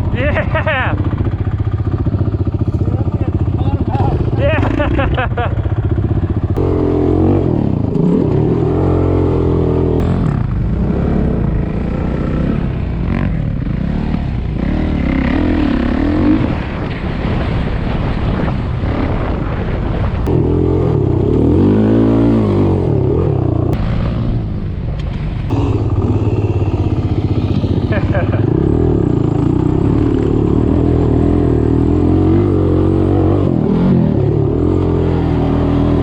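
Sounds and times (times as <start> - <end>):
off-road engine revving: 0.0 - 16.8, 20.2 - 24.5, 25.5 - 36.0
rush of riding noise: 0.0 - 36.0.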